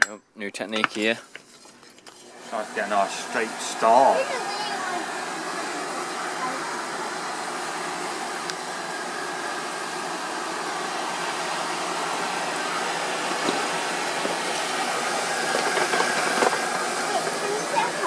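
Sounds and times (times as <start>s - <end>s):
hair dryer blowing air: 2.2s - 18.0s.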